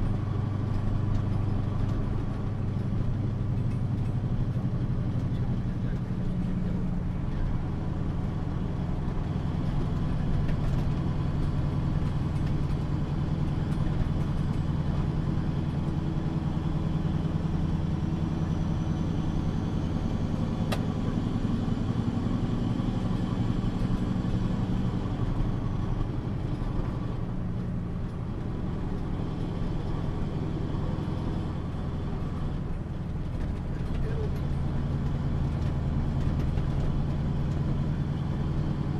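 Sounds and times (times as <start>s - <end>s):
truck engine from inside cab: 0.0s - 38.9s.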